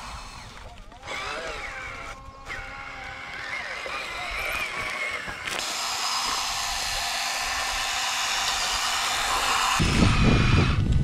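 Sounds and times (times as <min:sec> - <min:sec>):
small motor whirring: 0:00.0 - 0:11.0.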